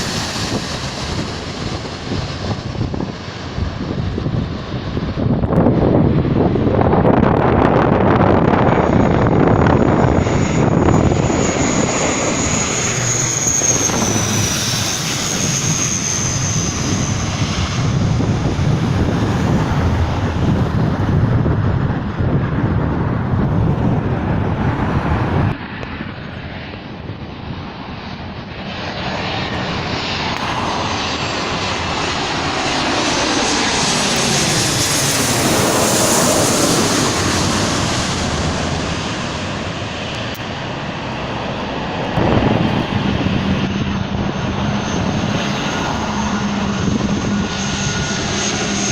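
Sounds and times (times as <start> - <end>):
airliner engines overhead: 0.0 - 48.9.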